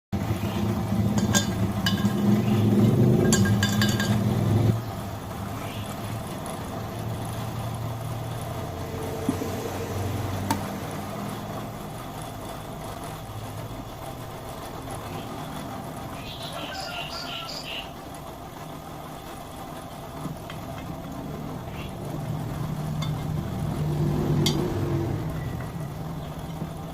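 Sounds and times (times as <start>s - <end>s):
workshop machine humming: 0.1s - 26.9s.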